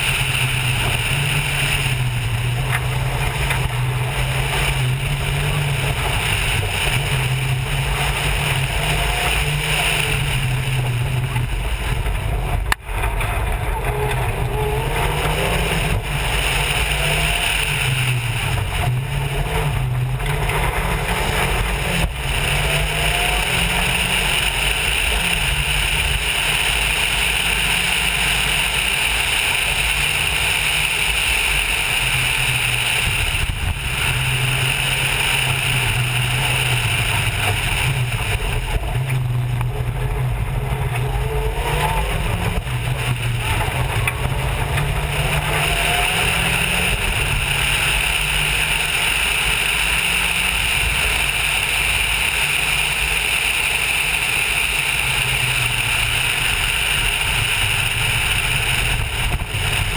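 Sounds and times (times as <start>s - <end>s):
rally car engine revving: 0.0s - 59.9s
tyres rushing over gravel: 0.0s - 59.9s.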